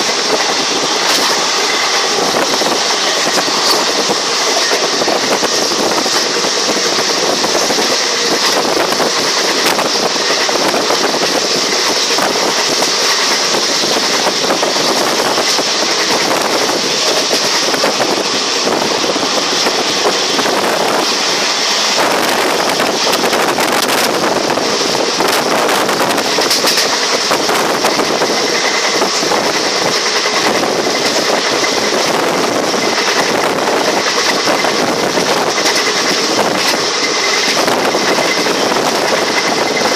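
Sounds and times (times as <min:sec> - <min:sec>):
train running noise: 0:00.0 - 0:39.9.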